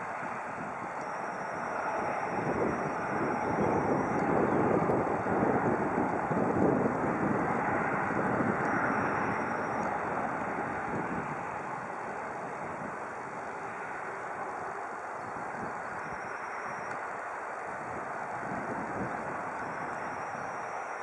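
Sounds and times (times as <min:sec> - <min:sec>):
jet engine rush: 0:00.0 - 0:21.0.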